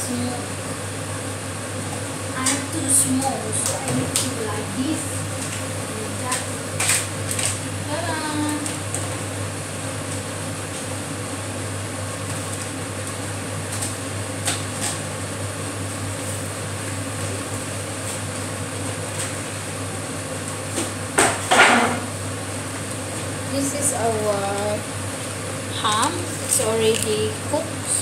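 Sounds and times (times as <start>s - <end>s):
kitchen appliance humming: 0.0s - 28.0s.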